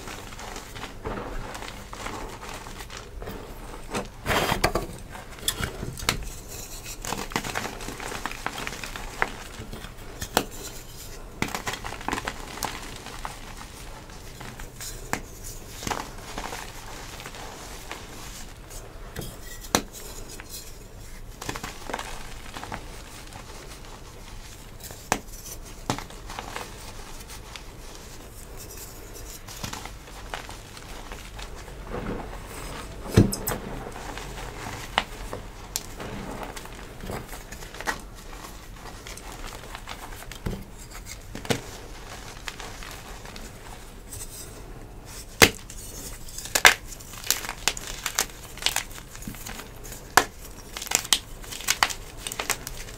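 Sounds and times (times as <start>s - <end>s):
chalk crunching and crumbling: 0.0s - 52.9s.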